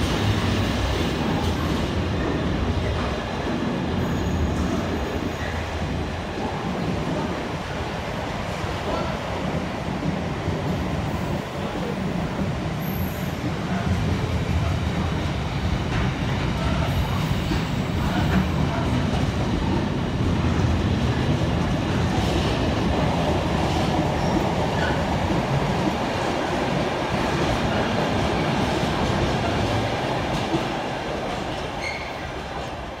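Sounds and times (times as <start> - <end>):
train wheels rolling on rails: 0.0 - 33.0.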